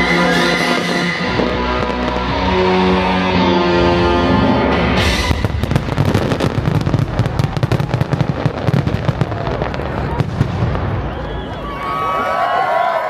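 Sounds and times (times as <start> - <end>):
fireworks bangs and crackles: 0.0 - 3.5, 4.9 - 12.4
deep fireworks booms: 0.0 - 12.2.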